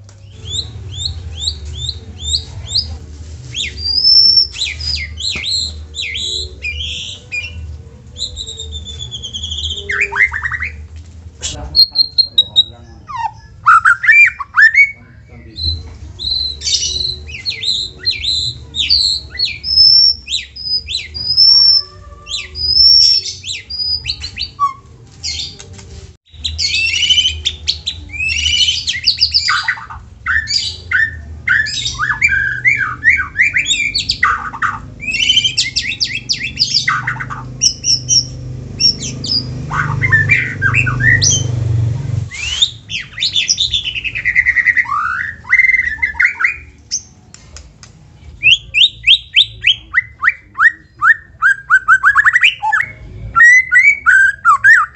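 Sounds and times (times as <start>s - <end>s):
songbird singing: 0.0s - 25.6s, 26.3s - 47.2s, 48.2s - 54.9s.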